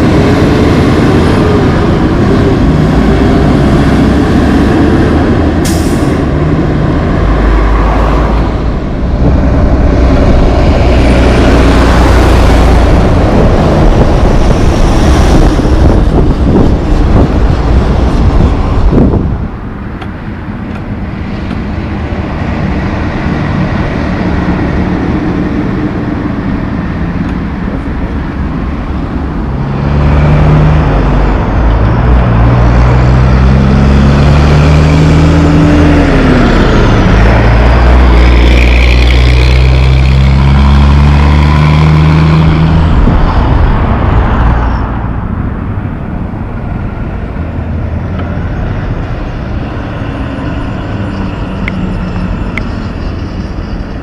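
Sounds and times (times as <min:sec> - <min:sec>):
diesel trucks passing: 0:00.0 - 0:54.0
passing car traffic: 0:00.0 - 0:54.0.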